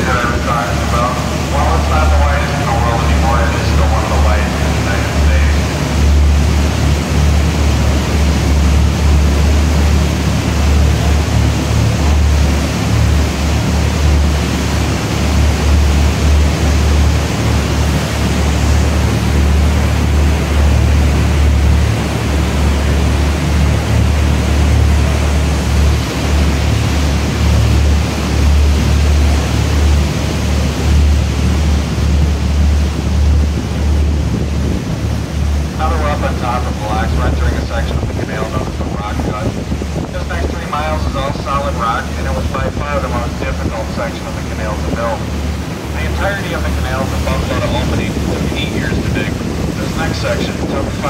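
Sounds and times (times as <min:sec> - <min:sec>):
boat motor rumbling: 0:00.0 - 0:51.0
water: 0:00.0 - 0:51.0
wind buffeting microphone: 0:00.0 - 0:51.0.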